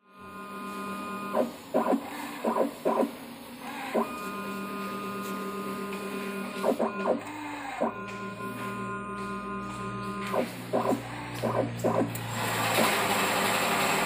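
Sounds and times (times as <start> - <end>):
machine electric whine: 0.0 - 14.0
short mechanical whirs: 0.2 - 14.0.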